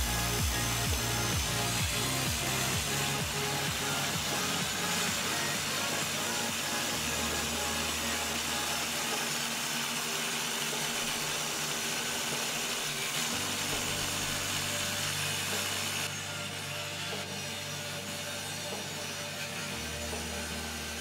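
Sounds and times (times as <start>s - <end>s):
table saw ripping a board: 0.0s - 21.0s.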